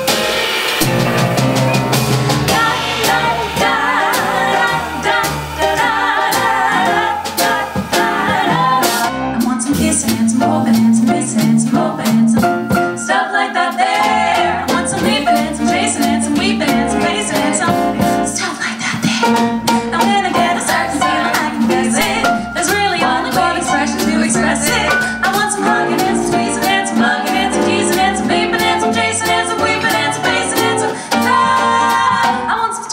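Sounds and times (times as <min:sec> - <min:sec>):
jazz band playing: 0:00.0 - 0:32.9
female vocal trio singing: 0:02.5 - 0:19.2, 0:19.8 - 0:32.9.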